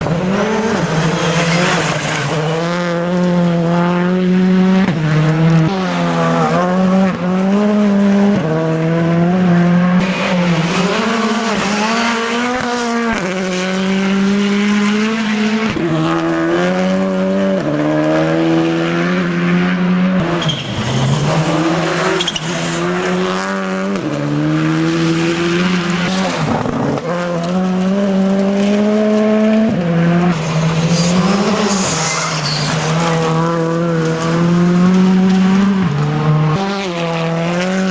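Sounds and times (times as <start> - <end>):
rally car engine at full throttle: 0.0 - 37.9.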